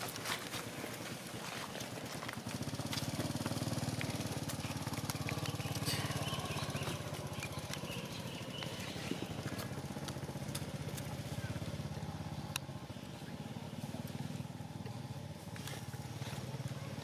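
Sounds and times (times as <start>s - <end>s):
small engine running: 0.1s - 17.0s.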